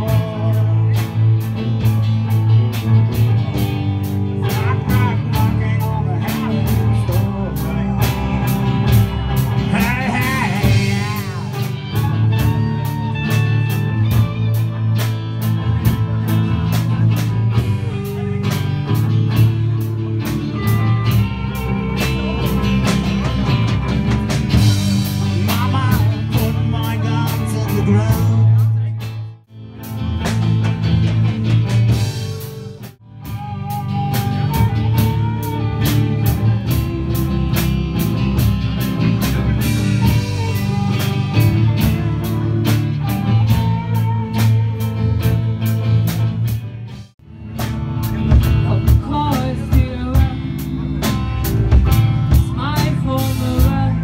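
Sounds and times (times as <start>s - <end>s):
drums keeping a steady beat: 0.0s - 54.0s
guitars: 0.0s - 54.0s.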